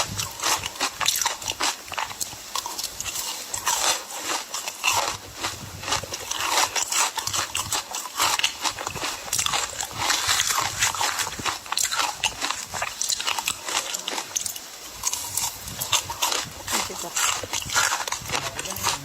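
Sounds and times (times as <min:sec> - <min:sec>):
person chewing and crunching ice: 0:00.0 - 0:19.0.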